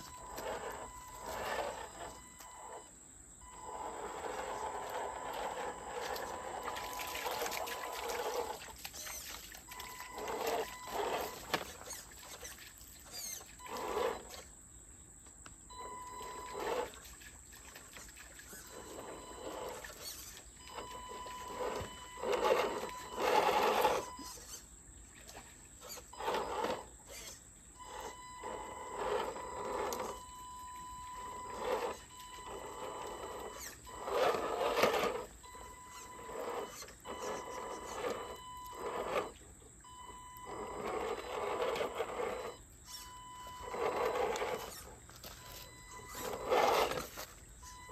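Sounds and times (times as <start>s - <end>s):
rc truck motor whining: 0.0s - 14.6s, 15.7s - 17.2s, 17.9s - 24.8s, 25.8s - 47.9s.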